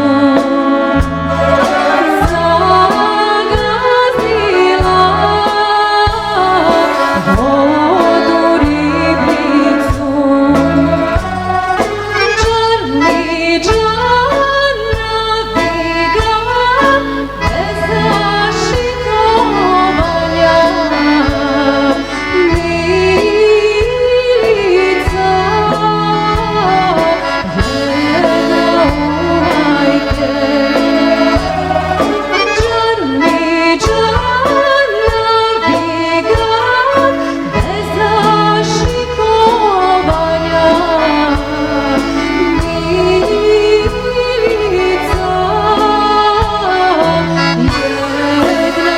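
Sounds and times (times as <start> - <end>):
accordion: 0.0 - 48.9
band with steady beat: 0.0 - 48.9
woman singing folk song: 0.0 - 48.9.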